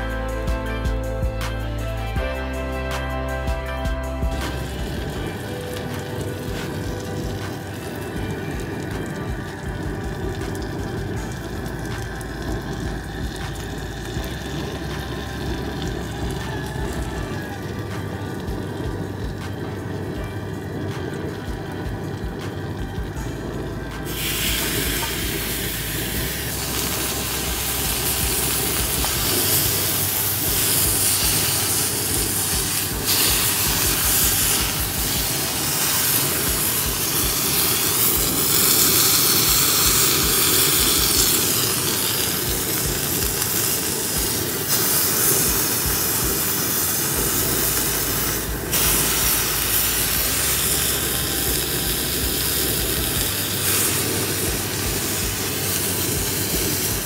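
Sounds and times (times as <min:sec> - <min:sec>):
steak sizzling on grill pan: 0:03.9 - 0:23.3, 0:24.0 - 0:57.0.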